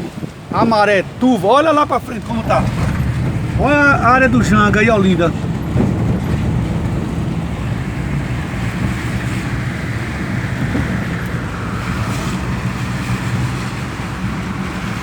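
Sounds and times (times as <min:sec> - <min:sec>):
car engine hum: 0:00.0 - 0:15.0
road noise: 0:00.0 - 0:15.0
wind rushing: 0:00.0 - 0:15.0.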